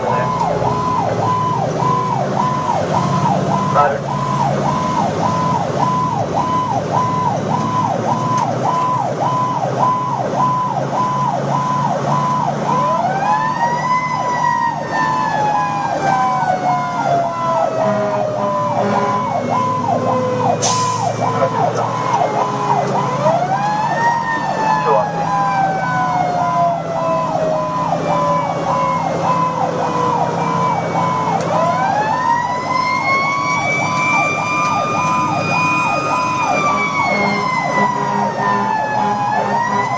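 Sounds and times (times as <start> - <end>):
electronic siren yelping: 0.0 - 39.9
fire truck engine: 0.0 - 39.9
siren winding up and down: 0.0 - 39.9.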